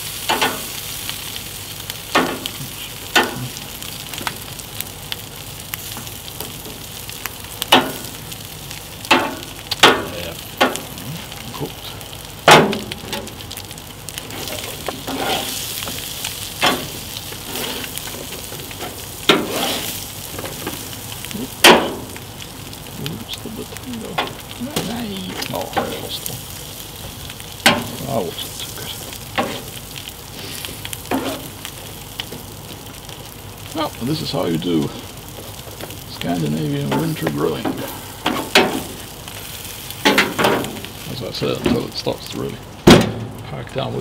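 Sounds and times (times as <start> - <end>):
food sizzling on a grill: 0.0 - 44.0.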